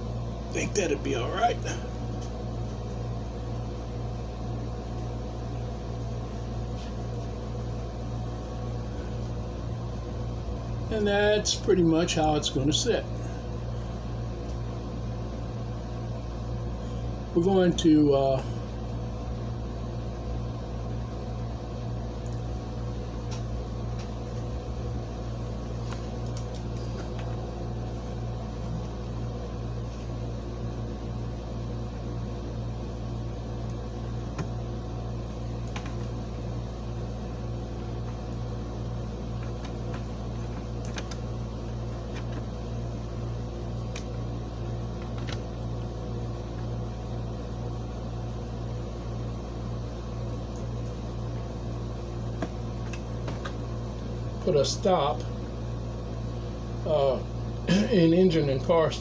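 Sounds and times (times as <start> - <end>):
electrical hum with fan whir: 0.0 - 59.0.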